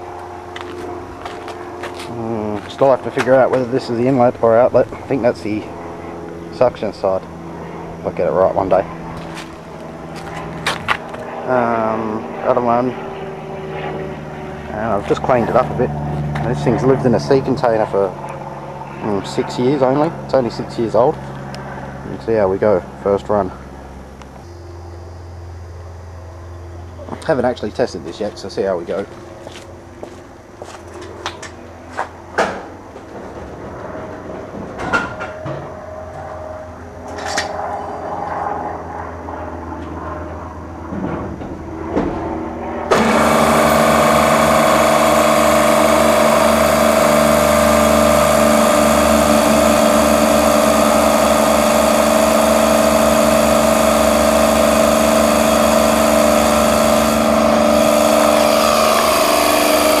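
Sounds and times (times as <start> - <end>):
compressor humming: 0.0 - 60.0.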